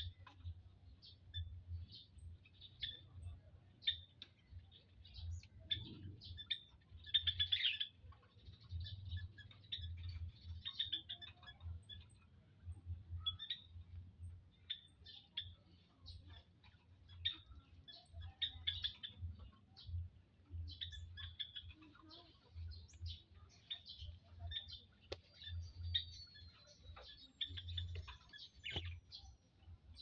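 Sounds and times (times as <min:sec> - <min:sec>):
quail chirping: 0:00.0 - 0:30.0.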